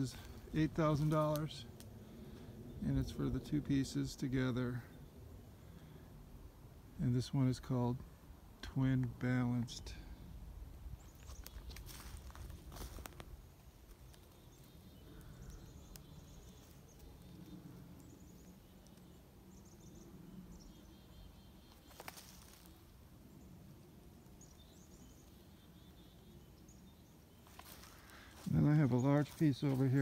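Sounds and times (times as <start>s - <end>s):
distant birds chirping: 0.0s - 30.0s
low rumble of wind: 0.0s - 30.0s.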